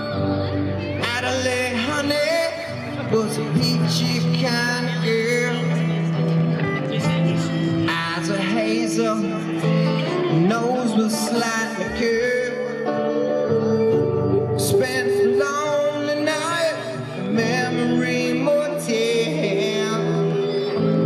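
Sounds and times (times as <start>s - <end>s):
acoustic guitar strumming: 0.0s - 21.0s
man singing: 0.0s - 21.0s
rock band playing: 0.0s - 21.0s.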